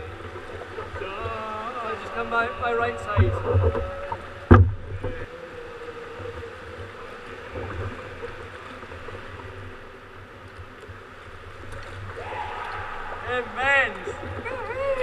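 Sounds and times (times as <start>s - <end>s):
water sloshing and lapping: 0.0s - 15.0s.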